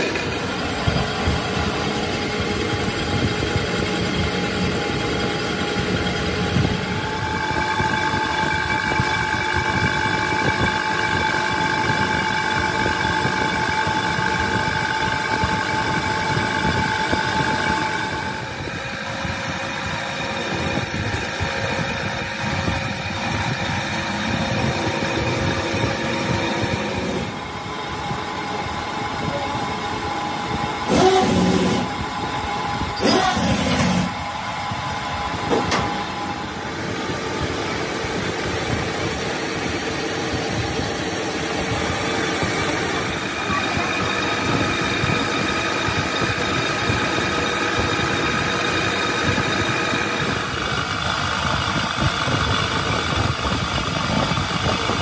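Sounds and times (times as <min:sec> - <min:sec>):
grinding wheel grinding metal: 0:00.0 - 0:55.0.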